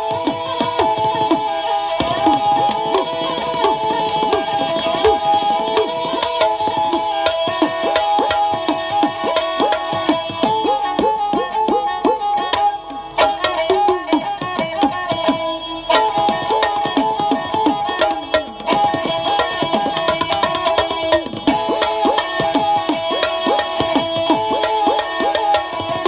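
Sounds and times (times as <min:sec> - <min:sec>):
bowed string melody: 0:00.0 - 0:26.0.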